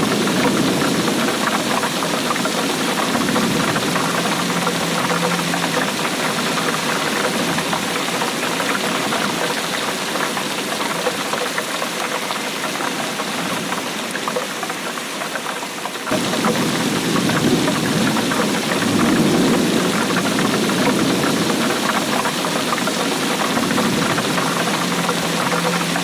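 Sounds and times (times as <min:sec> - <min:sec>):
heavy rain on hard surface: 0:00.0 - 0:26.0.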